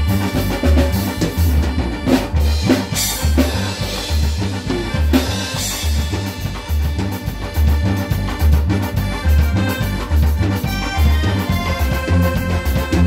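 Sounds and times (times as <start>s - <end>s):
electronic keyboard: 0.0s - 13.0s
steady drum beat: 0.0s - 13.0s.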